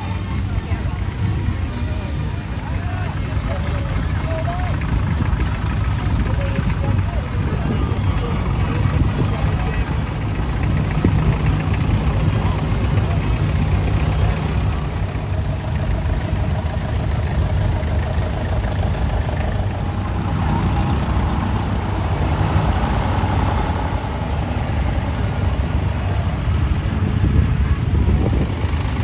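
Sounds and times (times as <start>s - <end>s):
tractor engines idling: 0.0s - 29.0s.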